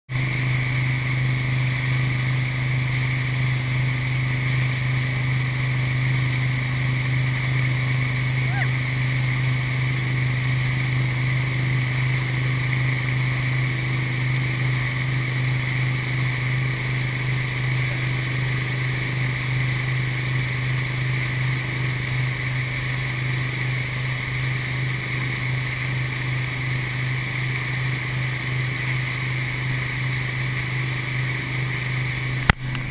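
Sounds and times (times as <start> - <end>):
boat engine droning: 0.1 - 32.9
churning rushing water: 0.1 - 32.9.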